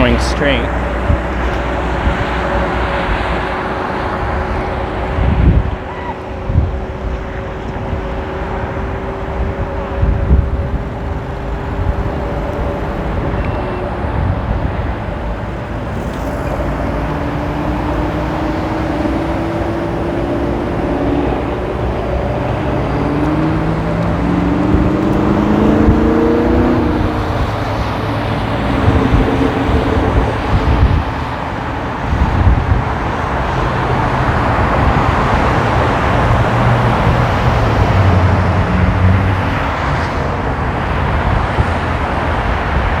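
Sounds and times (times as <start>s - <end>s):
cars passing: 0.0s - 43.0s
road noise rushing: 0.0s - 43.0s
vehicle engine accelerating: 0.0s - 43.0s
wind: 0.0s - 43.0s.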